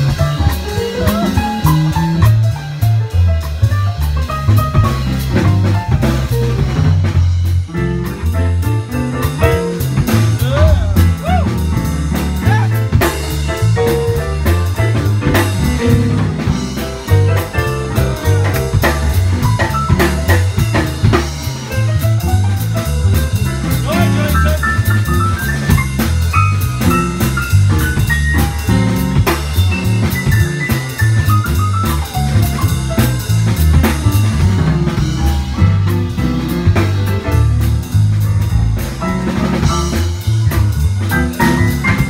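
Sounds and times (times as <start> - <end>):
drum kit beat: 0.0 - 42.0
jazz band playing swing: 0.0 - 42.0
walking bass line: 0.0 - 42.0.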